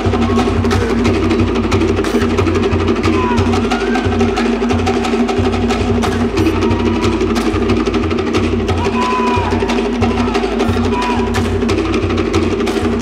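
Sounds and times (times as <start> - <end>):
deep drum beat: 0.0 - 13.0
slit log drums rapid strokes: 0.0 - 13.0.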